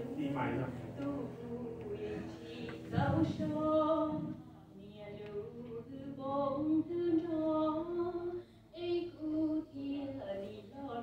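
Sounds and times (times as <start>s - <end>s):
woman singing: 1.0s - 11.0s.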